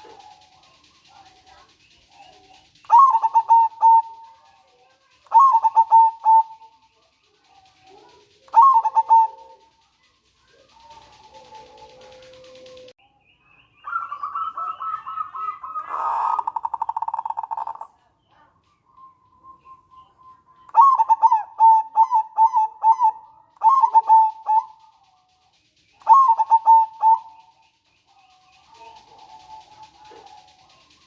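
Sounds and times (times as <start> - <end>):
dove cooing: 0.0 - 12.9, 13.9 - 18.0, 20.3 - 31.0
dove rattling trill: 0.0 - 13.0, 13.8 - 31.0.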